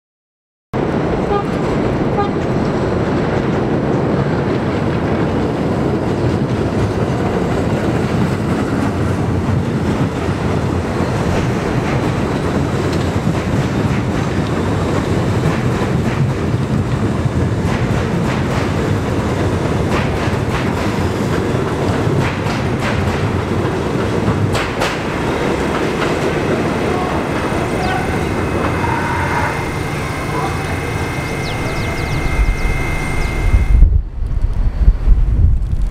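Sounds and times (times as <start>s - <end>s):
subway train wheels rumbling: 0.8s - 35.9s.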